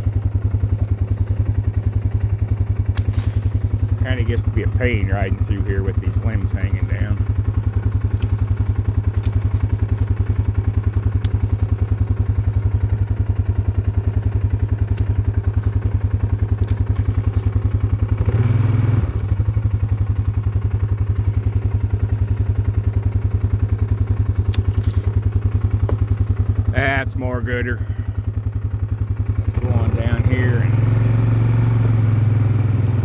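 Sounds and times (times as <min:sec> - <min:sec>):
atv engine idling: 0:00.0 - 0:33.0.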